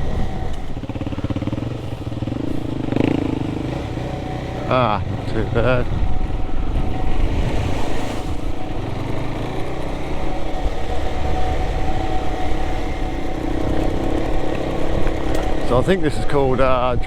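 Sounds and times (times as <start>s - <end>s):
motorcycle engine running: 0.0s - 17.0s
wind rumble: 0.0s - 17.0s.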